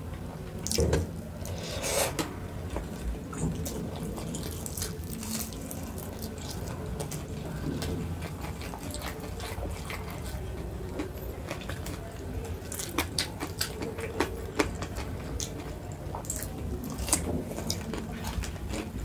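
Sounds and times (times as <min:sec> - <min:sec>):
wet chewing with crunches: 0:02.7 - 0:19.0.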